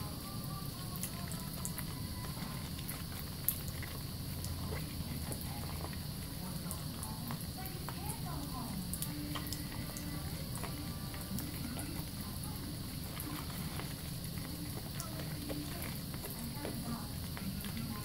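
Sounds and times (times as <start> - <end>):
hands squishing soap lather: 0.0 - 18.0.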